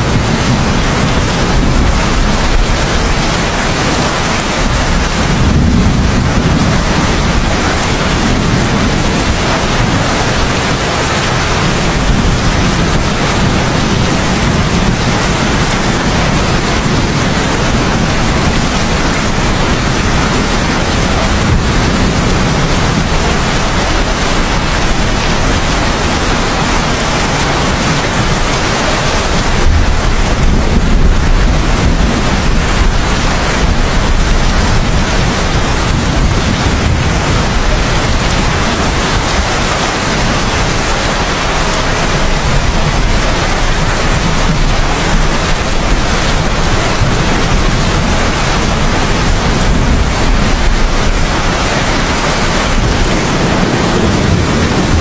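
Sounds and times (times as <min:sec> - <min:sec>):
heavy rain pouring: 0:00.0 - 0:55.0
low thunder rumbles: 0:00.0 - 0:55.0.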